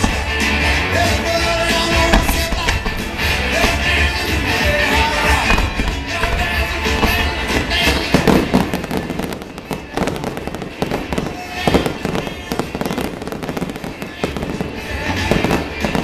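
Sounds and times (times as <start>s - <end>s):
fireworks bangs: 0.0s - 16.0s
fireworks crackling and popping: 0.0s - 16.0s.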